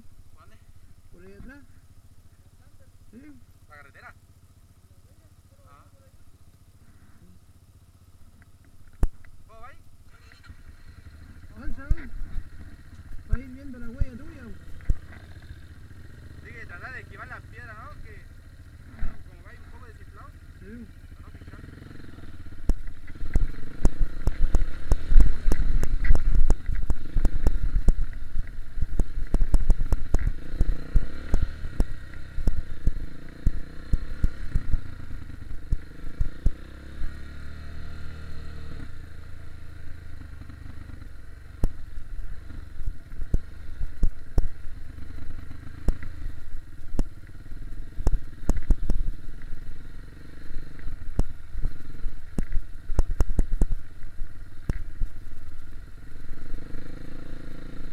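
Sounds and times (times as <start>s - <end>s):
motorbike engine at low revs: 0.0s - 57.9s.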